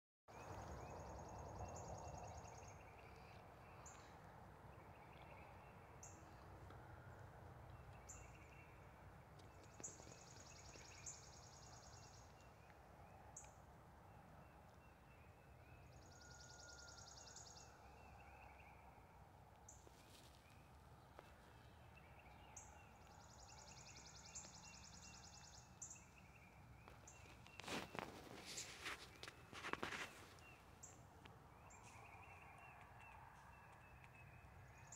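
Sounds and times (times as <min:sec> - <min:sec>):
birds chirping: 0:00.3 - 0:34.9.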